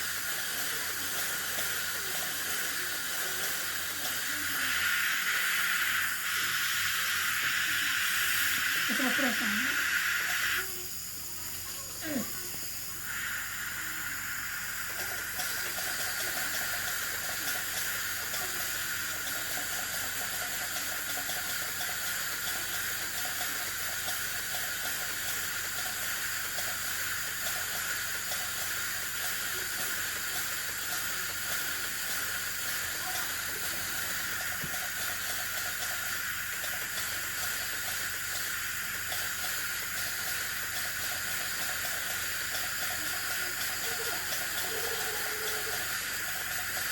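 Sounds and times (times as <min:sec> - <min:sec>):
dental drill whining: 0:00.0 - 0:46.9
suction hiss: 0:00.0 - 0:46.9.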